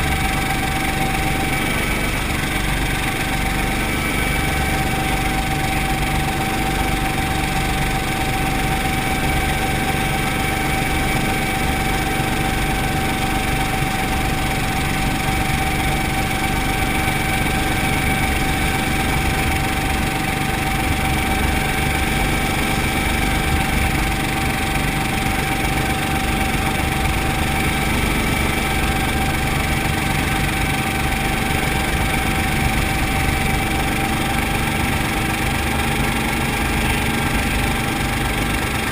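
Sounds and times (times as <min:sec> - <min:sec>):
helicopter engine and rotor running: 0:00.0 - 0:38.9.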